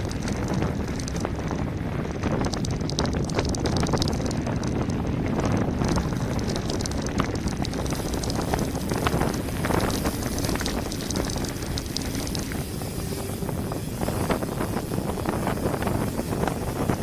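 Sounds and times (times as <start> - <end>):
bike rattles and clicks: 0.0 - 17.0
bike tyres rumbling over gravel: 0.0 - 17.0
wind buffeting microphone: 0.0 - 17.0.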